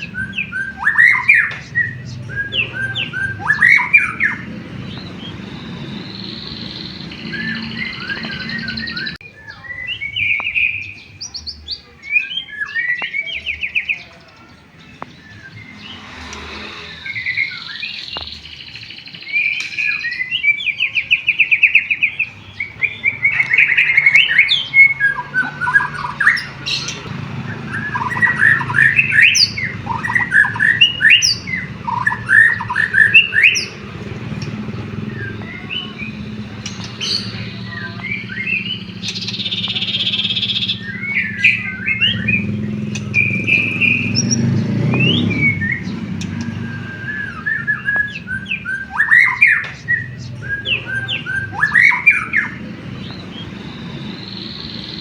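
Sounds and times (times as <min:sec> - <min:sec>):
bird singing trills and whistles: 0:00.0 - 0:55.0.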